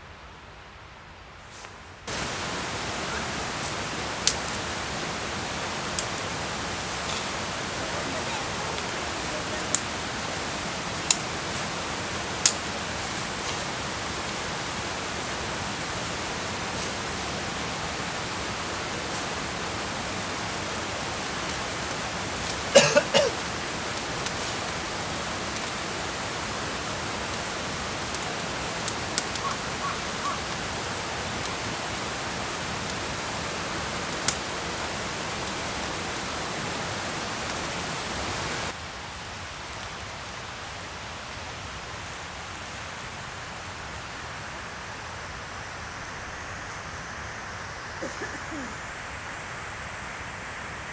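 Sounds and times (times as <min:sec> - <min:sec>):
campfire hissing: 0:01.2 - 0:50.9
fire crackles and pops: 0:01.4 - 0:43.0.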